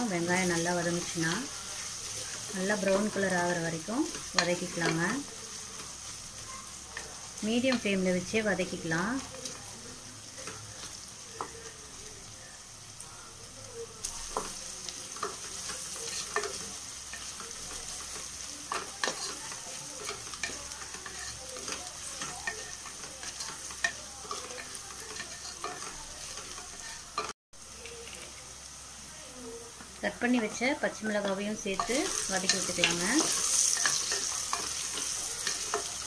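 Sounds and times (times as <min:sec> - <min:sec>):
onions sizzling in hot oil: 0:00.0 - 0:36.0.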